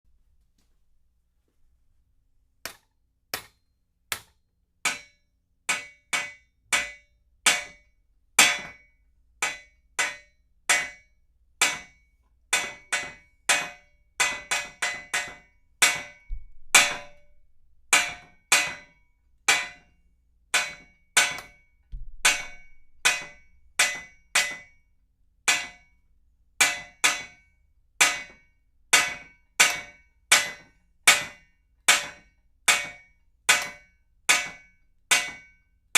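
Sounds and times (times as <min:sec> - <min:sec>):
hammer striking metal pipe: 0:02.6 - 0:19.9, 0:20.5 - 0:24.9, 0:25.5 - 0:26.0, 0:26.6 - 0:35.6.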